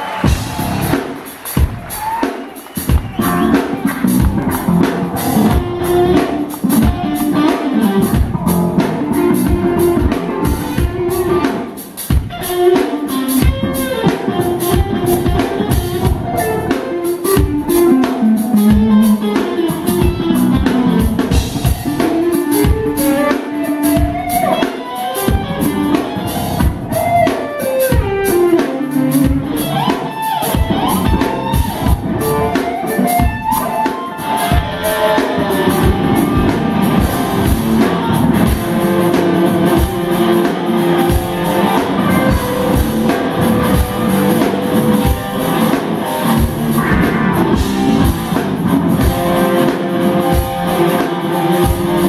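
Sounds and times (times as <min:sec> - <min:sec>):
drum kit: 0:00.0 - 0:52.0
second electric guitar: 0:00.0 - 0:52.0
lead electric guitar melody: 0:02.7 - 0:52.0.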